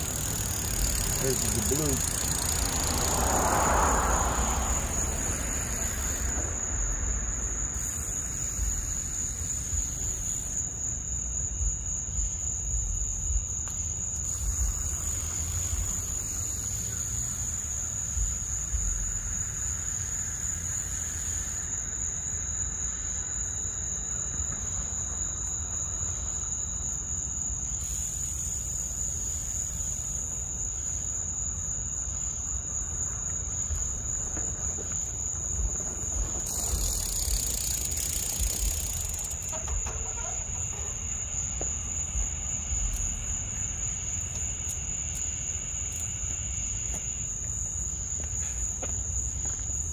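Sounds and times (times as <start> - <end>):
crickets trilling: 0.0 - 49.9.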